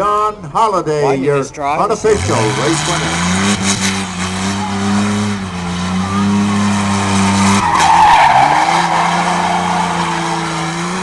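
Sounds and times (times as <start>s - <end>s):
racing truck engines droning: 1.7s - 11.0s
rush of engine and tyre noise: 2.0s - 11.0s.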